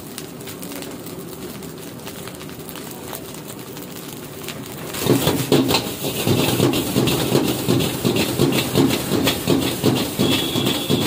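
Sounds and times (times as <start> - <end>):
rice stir-frying: 0.0 - 11.0.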